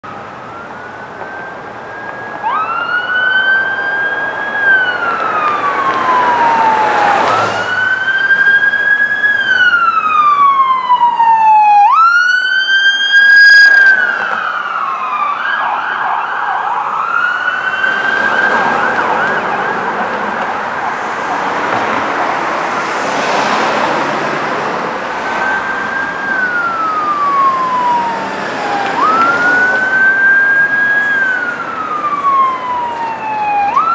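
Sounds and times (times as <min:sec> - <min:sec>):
siren warbling yelp: 0:00.0 - 0:20.0, 0:25.1 - 0:33.9
emergency sirens wailing: 0:00.0 - 0:33.9
traffic noise: 0:00.0 - 0:33.9.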